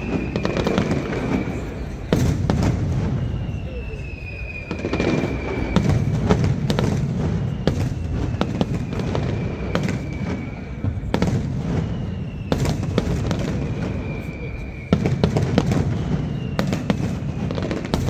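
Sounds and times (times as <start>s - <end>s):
firework whistles: 0.0s - 18.0s
fireworks bangs and pops: 0.0s - 18.0s.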